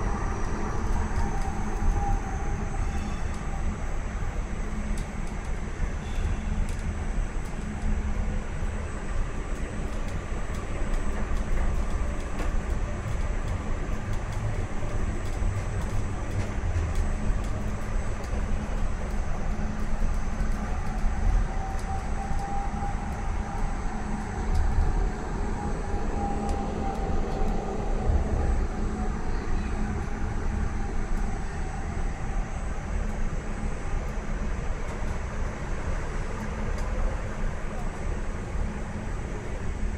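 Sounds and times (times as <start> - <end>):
thin whine: 0.0 - 39.9
tram wheels rumbling on rails: 0.0 - 39.9.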